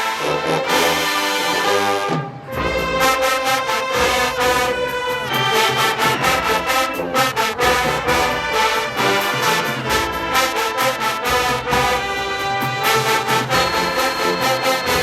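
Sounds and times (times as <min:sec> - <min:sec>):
marching band brass: 0:00.0 - 0:15.0
drumline beat: 0:00.4 - 0:15.0.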